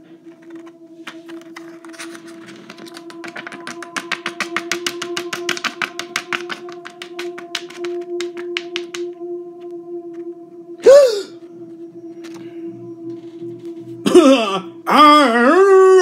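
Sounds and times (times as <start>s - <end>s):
steady humming tone: 0.0s - 16.0s.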